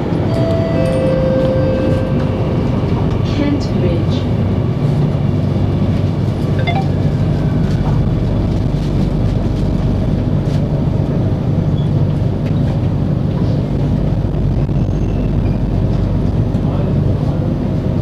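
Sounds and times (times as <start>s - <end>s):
train rumbling through a tunnel: 0.0s - 18.0s.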